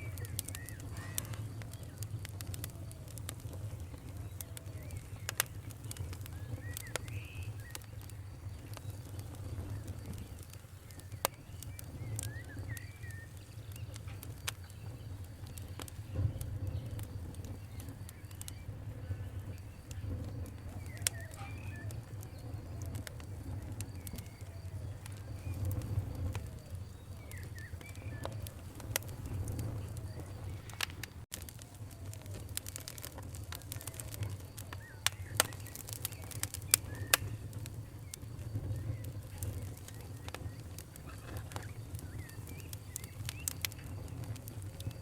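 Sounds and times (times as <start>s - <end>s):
birds chirping: 0.0s - 31.2s, 32.0s - 45.0s
campfire crackling: 0.0s - 45.0s.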